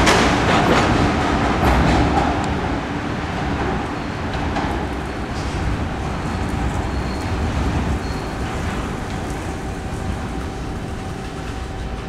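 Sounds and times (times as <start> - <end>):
train rumbling through tunnel: 0.0 - 12.0.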